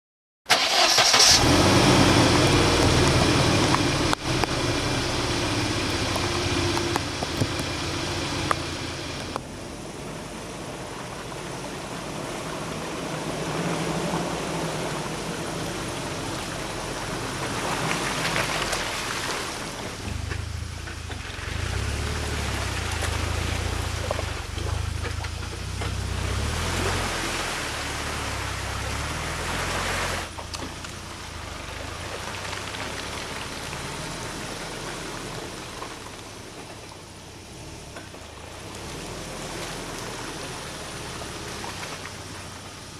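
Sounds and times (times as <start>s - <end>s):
suv engine running at low revs: 0.9s - 42.9s.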